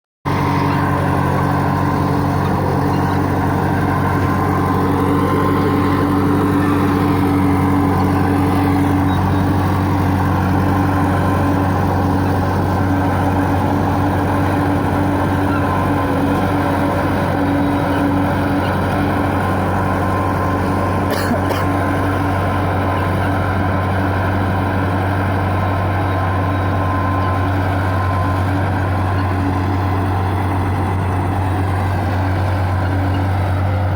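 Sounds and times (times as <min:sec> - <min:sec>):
diesel engine running: 0:00.3 - 0:33.9.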